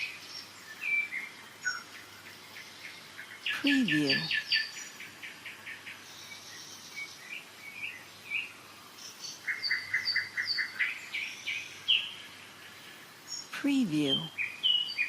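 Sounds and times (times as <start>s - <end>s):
songbirds chirping and whistling: 0.0s - 13.5s, 14.2s - 15.0s.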